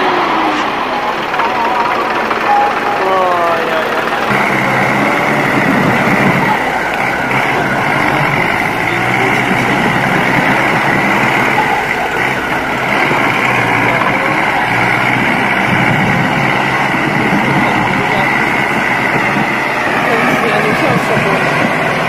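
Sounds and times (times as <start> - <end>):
high whine: 0.0 - 22.0
tractor engine under load: 0.0 - 22.0.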